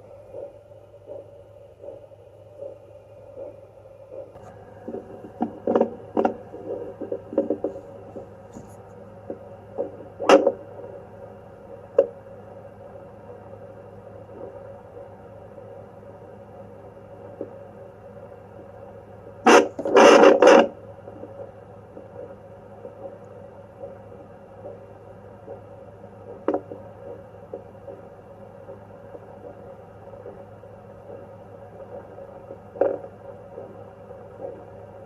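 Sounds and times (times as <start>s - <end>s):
faint heartbeat from doppler: 0.0s - 35.0s
steady hum: 0.0s - 35.0s.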